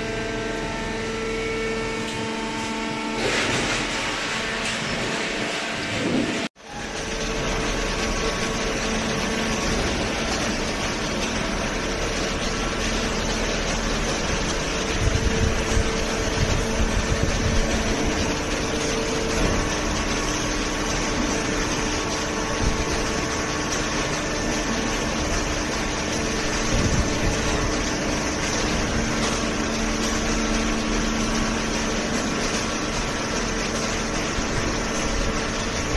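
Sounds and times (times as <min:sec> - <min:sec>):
industrial machine hum: 0:00.0 - 0:35.9.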